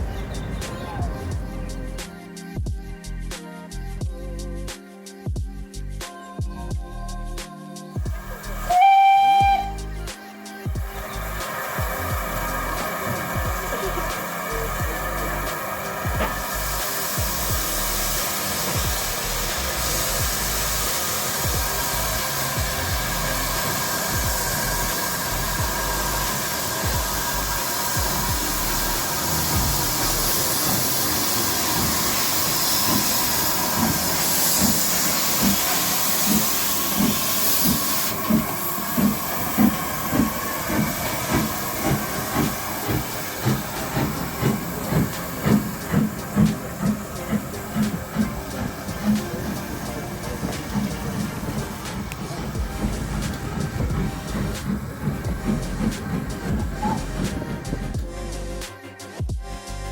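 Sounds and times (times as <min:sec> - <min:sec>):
locomotive exhaust beats: 0:00.0 - 0:02.1, 0:10.7 - 0:58.7
steam locomotive hissing: 0:00.0 - 0:03.8, 0:08.0 - 0:59.8.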